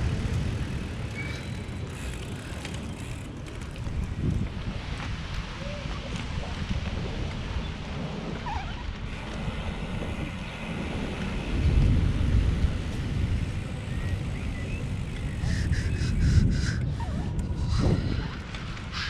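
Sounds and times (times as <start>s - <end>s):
bike rumbling: 0.0s - 19.0s
wind buffeting microphone: 0.0s - 19.0s.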